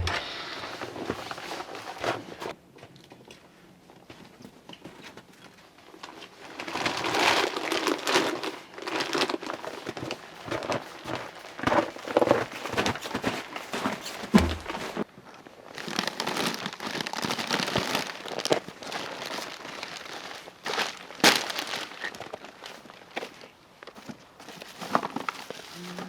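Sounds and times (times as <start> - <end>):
rustling and crinkling handling: 0.0 - 26.0.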